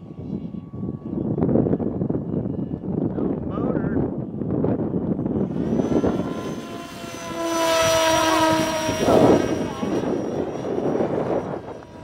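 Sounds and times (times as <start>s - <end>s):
electric motor and propeller whine: 0.0s - 12.0s
wind rumble on microphone: 0.0s - 12.0s.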